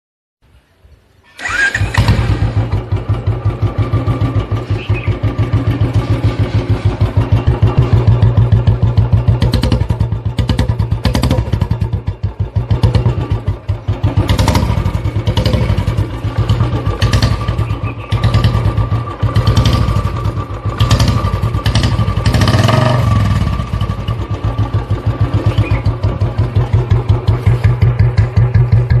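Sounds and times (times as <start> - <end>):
motorcycle engine starting and revving: 1.2 - 29.0.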